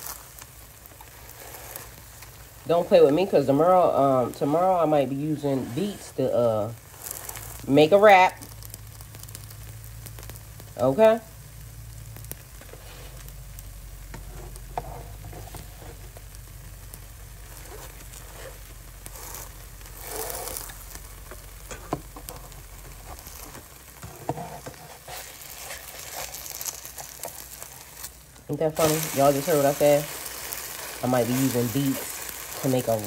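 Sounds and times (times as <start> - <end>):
batter sizzling in frying pan: 0.0 - 33.0
low background hum: 0.0 - 33.0.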